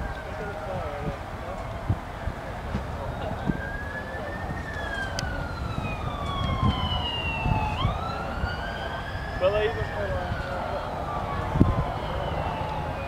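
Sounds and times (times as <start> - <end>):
helicopter turbine whine: 0.0 - 13.0.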